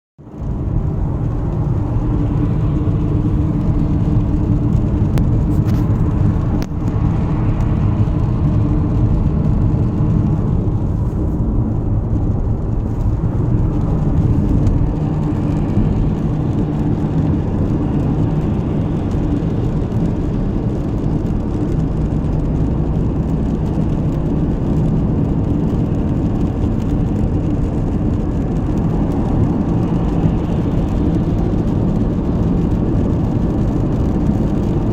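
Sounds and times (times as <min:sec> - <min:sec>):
car road noise: 0:00.2 - 0:34.9
low hum from car: 0:00.2 - 0:34.9.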